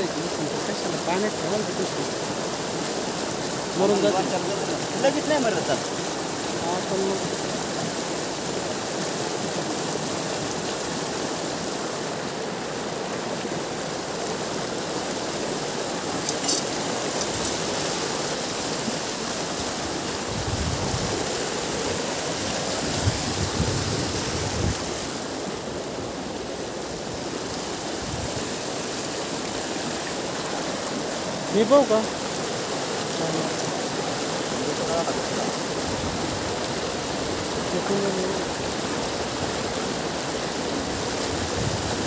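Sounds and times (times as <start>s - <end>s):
river water rushing over rocks: 0.0s - 42.0s.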